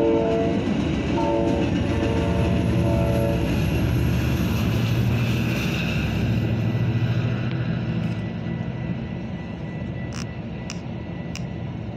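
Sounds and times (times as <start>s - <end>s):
train rumbling: 0.0s - 11.9s.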